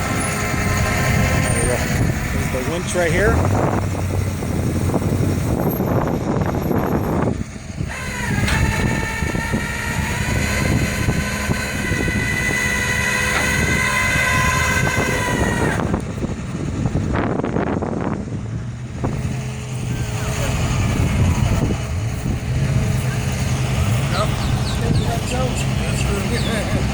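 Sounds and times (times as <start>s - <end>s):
winch whining: 0.0s - 17.1s, 19.0s - 26.9s
truck engine: 0.0s - 26.9s.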